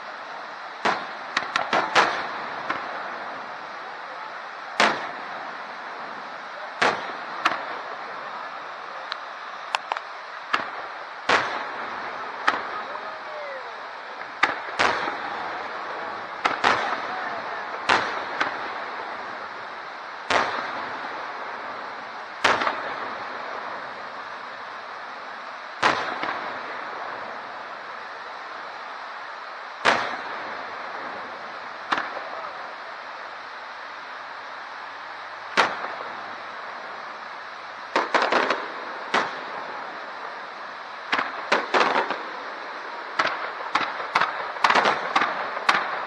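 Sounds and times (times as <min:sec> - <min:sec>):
fireworks bursting: 0:00.0 - 0:46.0
steady background hiss: 0:00.0 - 0:46.0.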